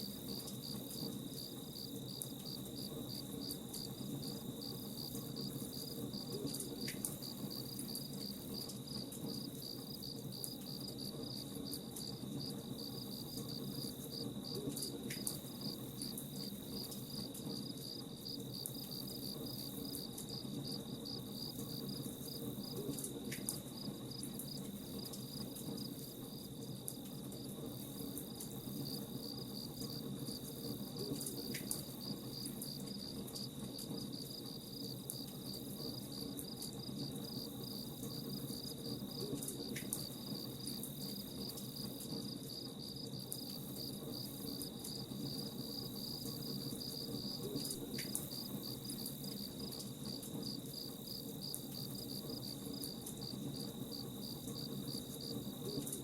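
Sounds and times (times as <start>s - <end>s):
crickets chirping: 0.0s - 23.0s, 23.7s - 56.0s.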